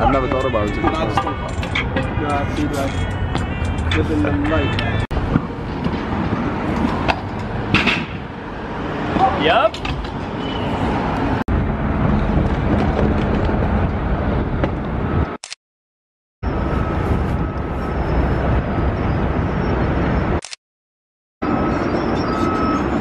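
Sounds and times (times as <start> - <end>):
city traffic noise: 0.0 - 15.6, 16.4 - 20.6, 21.4 - 23.0.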